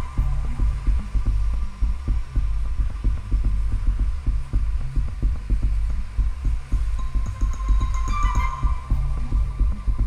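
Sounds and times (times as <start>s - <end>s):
low throbbing pulse: 0.0s - 10.0s
steady hum: 0.0s - 10.0s.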